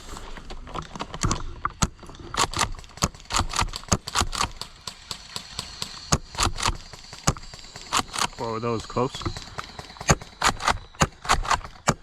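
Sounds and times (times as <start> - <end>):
airsoft gunfire: 2.4 - 12.0.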